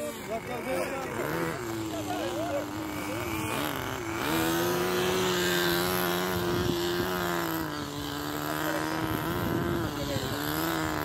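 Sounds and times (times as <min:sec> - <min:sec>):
small engine buzzing: 0:00.0 - 0:11.0.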